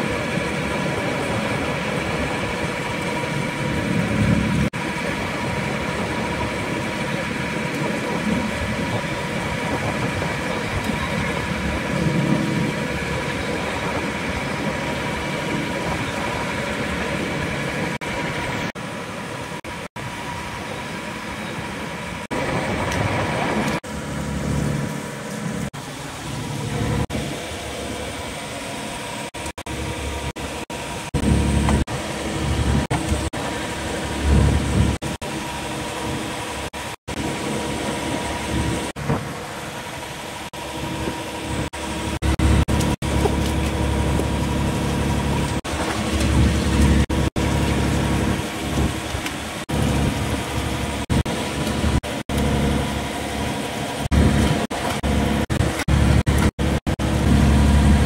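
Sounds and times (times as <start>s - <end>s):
boat engine running: 0.0s - 58.0s
wind and sea rushing: 0.0s - 58.0s.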